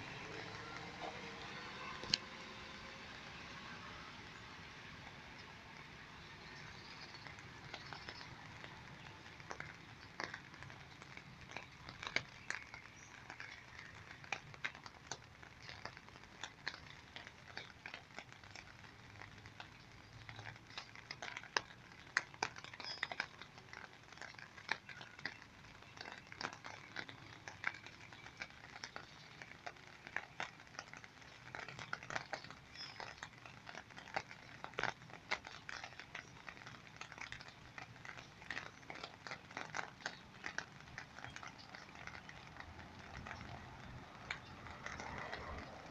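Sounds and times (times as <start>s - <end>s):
raindrops ticking: 0.0s - 45.9s
steady rain hiss: 0.0s - 45.9s.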